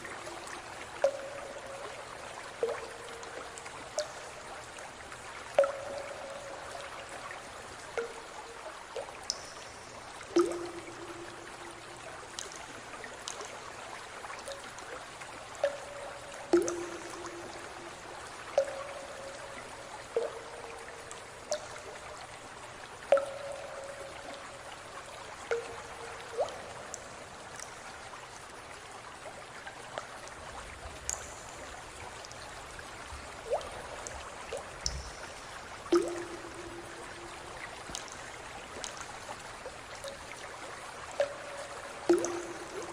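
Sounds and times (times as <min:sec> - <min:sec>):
drips plopping into water: 0:00.0 - 0:28.5, 0:31.0 - 0:42.9
water trickling: 0:00.0 - 0:42.9.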